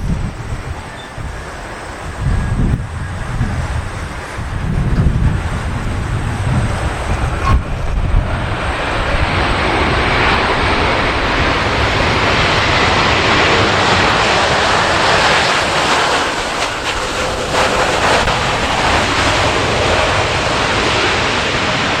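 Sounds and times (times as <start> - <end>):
jet engines rushing: 0.0 - 22.0
wind buffeting microphone: 0.0 - 22.0.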